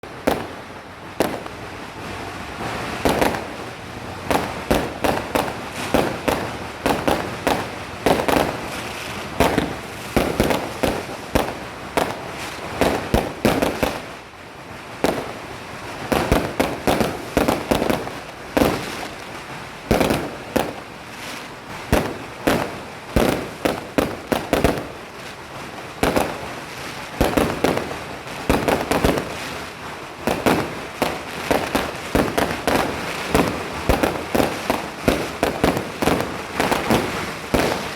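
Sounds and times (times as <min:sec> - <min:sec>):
fireworks banging: 0:00.0 - 0:37.9.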